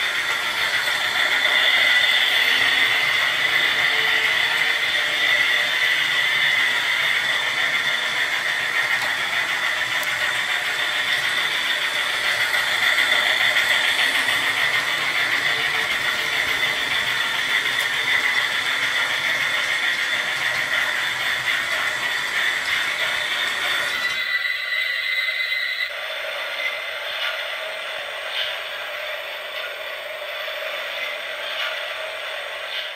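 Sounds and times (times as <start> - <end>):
toy train motor whirr: 0.0 - 32.9.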